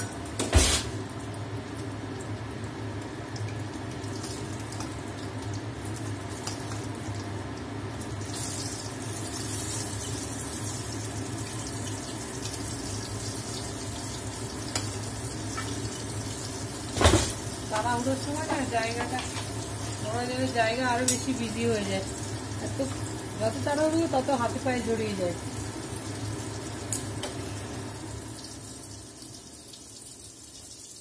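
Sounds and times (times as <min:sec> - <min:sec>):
vegetables frying in hot oil: 0:00.0 - 0:31.0.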